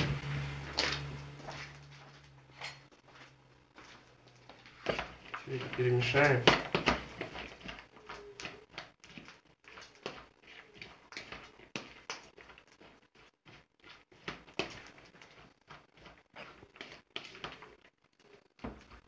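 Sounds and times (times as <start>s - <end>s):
wet rustling of cucumbers in bowl: 3.1s - 19.0s.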